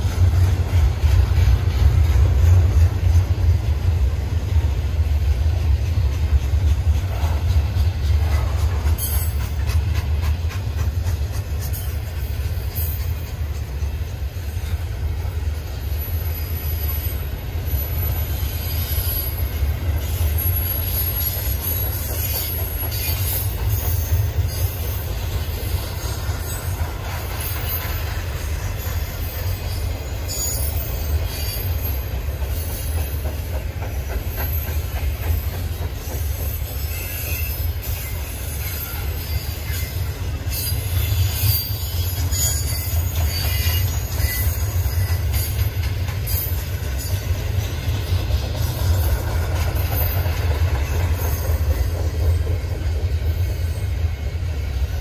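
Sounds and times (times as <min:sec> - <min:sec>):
freight train rumbling on rails: 0:00.0 - 0:55.0
train wheels squeaking: 0:00.0 - 0:55.0.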